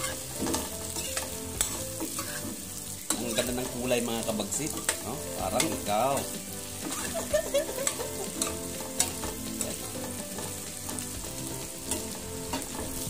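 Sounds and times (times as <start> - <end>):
metal spoon scraping a pan: 0.0 - 13.0
vegetables sizzling in a pan: 0.0 - 13.0.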